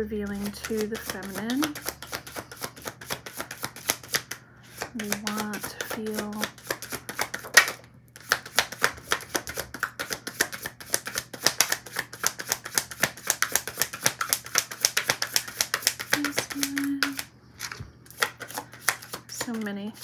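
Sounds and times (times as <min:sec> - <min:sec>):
cards being shuffled: 0:00.2 - 0:20.0.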